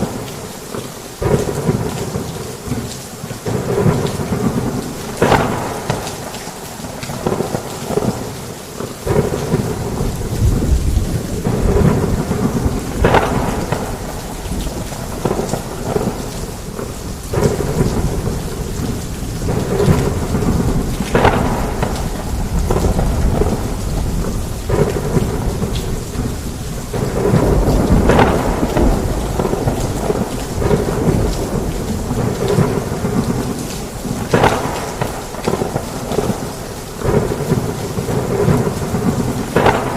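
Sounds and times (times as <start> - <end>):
heavy rain: 0.0 - 39.9
rolling thunder: 3.4 - 8.4, 9.0 - 39.9
sharp thunder crack: 3.5 - 6.3, 9.0 - 39.9.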